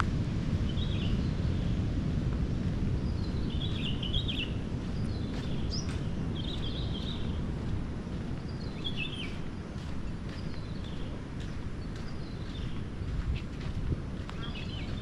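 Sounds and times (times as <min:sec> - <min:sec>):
low rumbling noise: 0:00.0 - 0:15.0
birds chirping: 0:00.7 - 0:01.8, 0:02.8 - 0:15.0.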